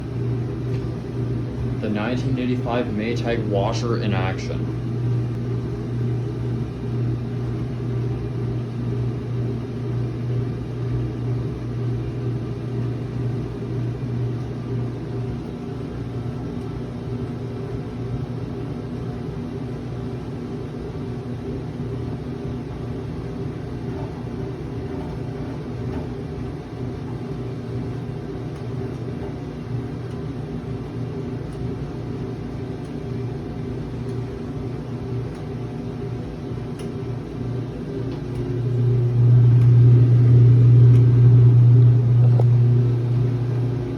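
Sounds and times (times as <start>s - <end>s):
washing machine running: 0.0s - 43.9s.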